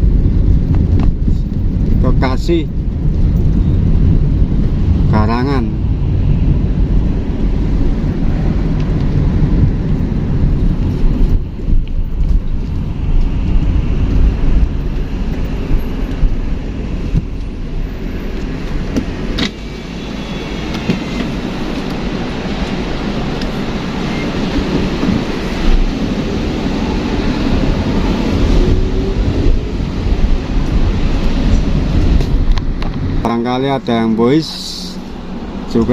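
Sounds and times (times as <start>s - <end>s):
traffic rumbling past: 2.7s - 35.9s.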